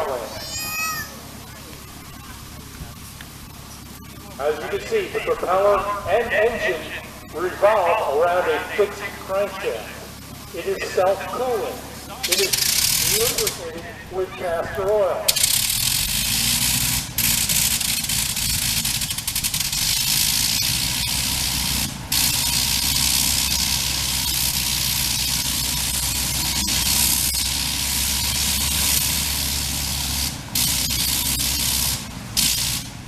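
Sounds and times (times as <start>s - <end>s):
rotary aircraft engine blaring: 0.0s - 33.0s.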